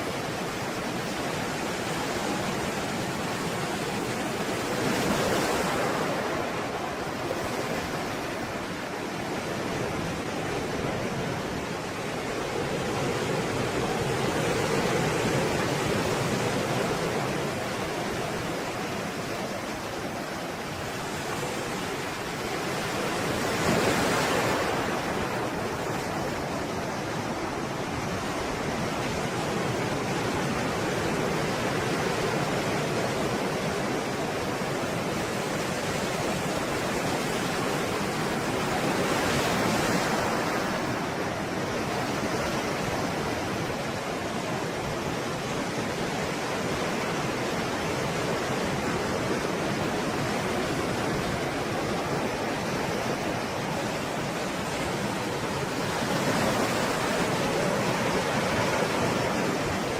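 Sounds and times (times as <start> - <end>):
waves breaking: 0.0 - 59.9.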